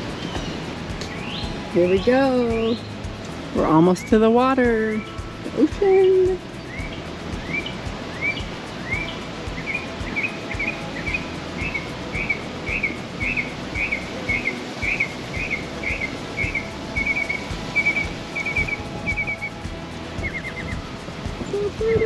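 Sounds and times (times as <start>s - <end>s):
songbird whistling: 0.0s - 2.9s, 3.8s - 5.4s, 6.0s - 22.0s
outdoor background noise: 0.0s - 22.0s.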